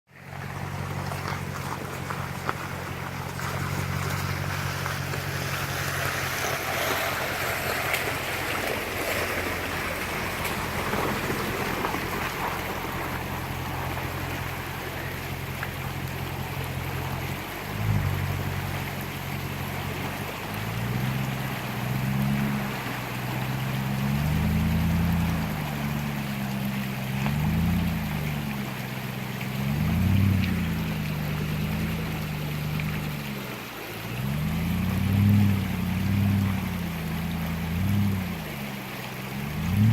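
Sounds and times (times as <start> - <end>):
engine running at low revs: 0.1 - 39.9
water rushing and splashing: 0.1 - 39.9.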